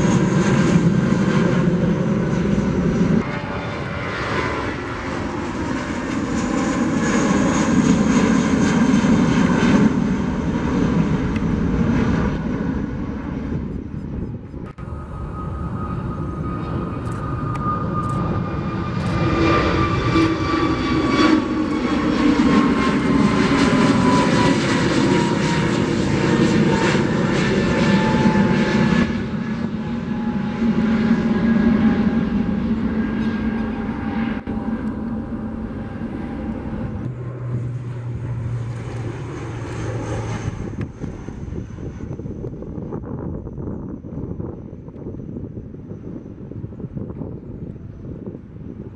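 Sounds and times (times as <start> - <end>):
jet engine whine: 0.0 - 48.9
propeller plane hum: 0.0 - 48.9.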